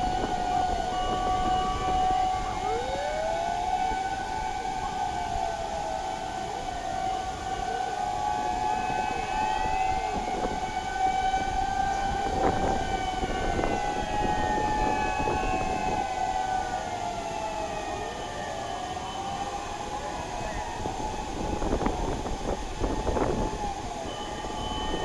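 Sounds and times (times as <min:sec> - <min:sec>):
other sirens sliding in pitch: 0:00.0 - 0:25.0
siren wailing: 0:00.0 - 0:25.0.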